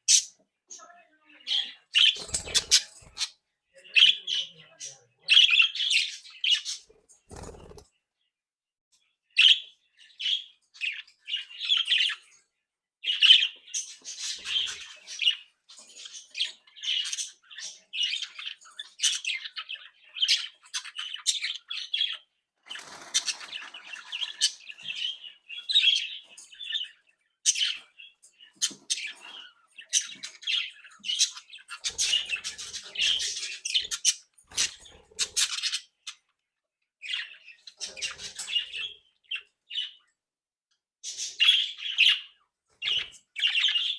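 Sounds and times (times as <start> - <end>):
budgerigars chirping and warbling: 0.0 - 8.0, 9.0 - 40.1, 41.0 - 43.9.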